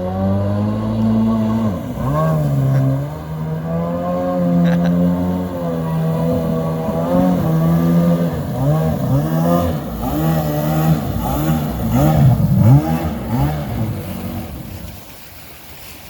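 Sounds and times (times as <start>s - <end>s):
boat engine revving: 0.0s - 15.3s.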